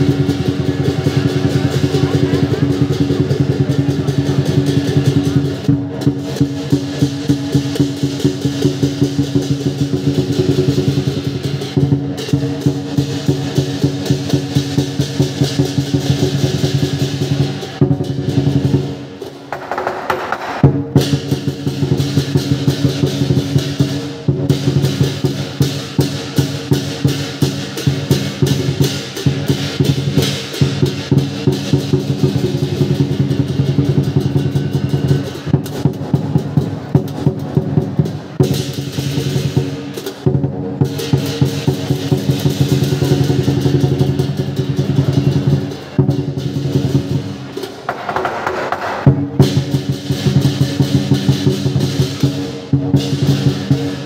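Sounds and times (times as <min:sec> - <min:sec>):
cymbals clashing: 0:00.0 - 0:54.0
large drum beating: 0:00.0 - 0:54.0.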